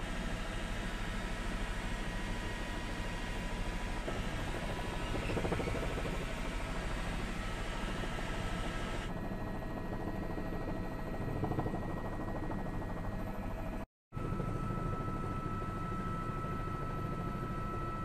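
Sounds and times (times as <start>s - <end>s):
helicopter rotor and engine: 0.0s - 18.0s.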